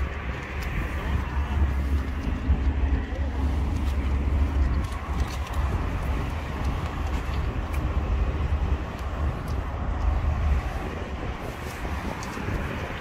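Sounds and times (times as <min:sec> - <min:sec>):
outdoor noise: 0:00.0 - 0:13.0
wind buffeting microphone: 0:00.0 - 0:13.0.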